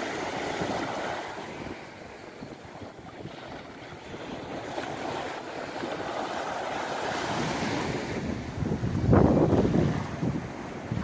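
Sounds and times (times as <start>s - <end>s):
sea waves washing onto shore: 0.0s - 11.0s.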